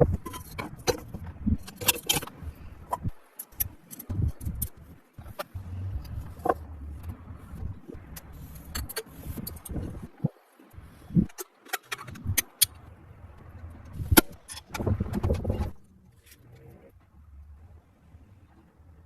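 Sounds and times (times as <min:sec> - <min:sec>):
low rumble: 0:00.0 - 0:11.4, 0:12.1 - 0:19.0.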